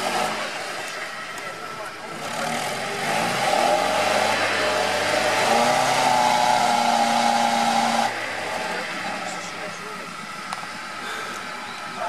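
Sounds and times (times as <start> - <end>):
suv engine at high revs: 0.0 - 12.0.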